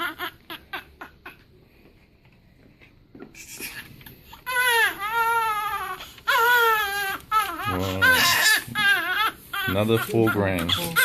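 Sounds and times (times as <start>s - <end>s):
baby crying: 0.0s - 1.4s, 3.5s - 11.0s.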